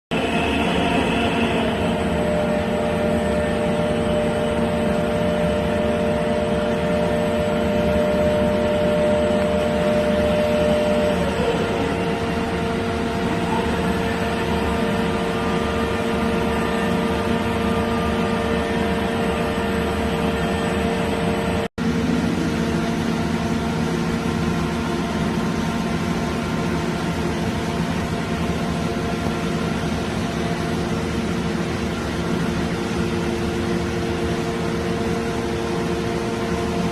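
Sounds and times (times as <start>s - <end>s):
machine hum: 0.1s - 36.9s
machine whining tones: 0.1s - 36.9s.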